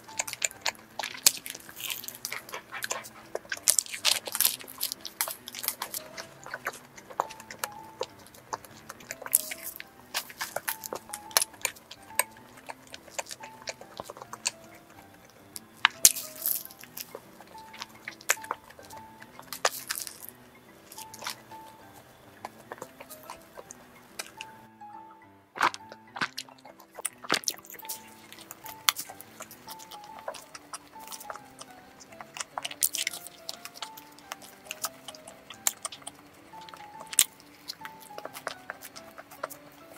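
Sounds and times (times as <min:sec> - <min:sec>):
crisp crust crunches: 0:00.0 - 0:24.6, 0:25.6 - 0:39.9
biting and chewing pastry: 0:00.0 - 0:39.9
soft background music: 0:00.0 - 0:39.9.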